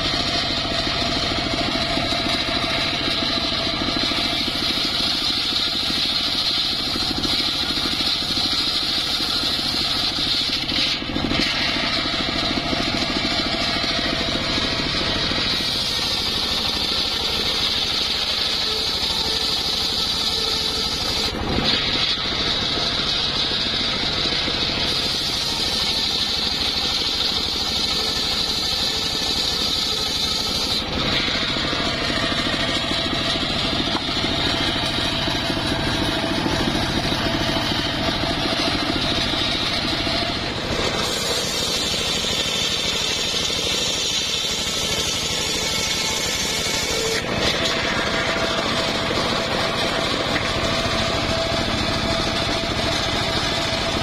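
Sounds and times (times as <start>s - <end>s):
circular saw cutting wood: 0.0s - 54.0s.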